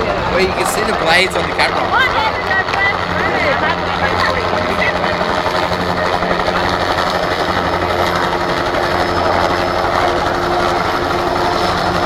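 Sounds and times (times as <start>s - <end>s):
helicopter engine drone: 0.0s - 12.0s
rotor blades beating: 0.0s - 12.0s.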